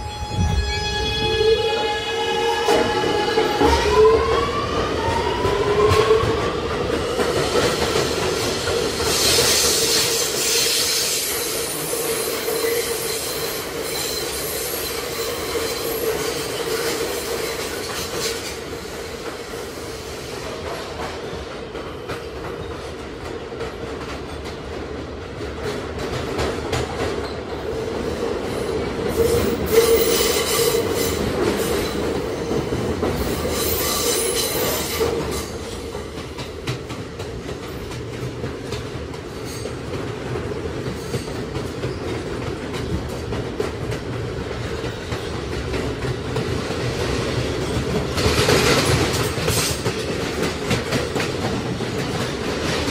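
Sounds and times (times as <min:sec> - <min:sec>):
wheels rumbling on rail: 0:00.0 - 0:52.9.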